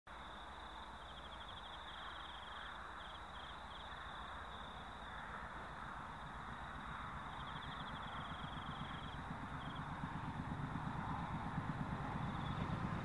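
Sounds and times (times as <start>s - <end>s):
faint outdoor noise with rumble: 0.1s - 13.0s
insects chirping in trills: 0.1s - 13.0s.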